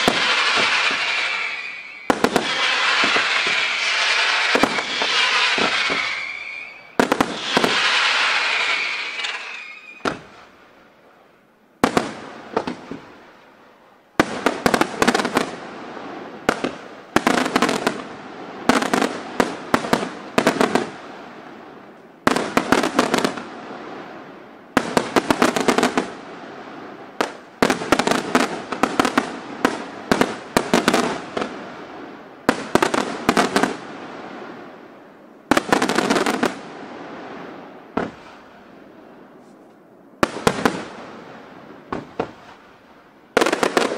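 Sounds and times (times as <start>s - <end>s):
fireworks bursting with sharp bangs: 0.0s - 43.9s.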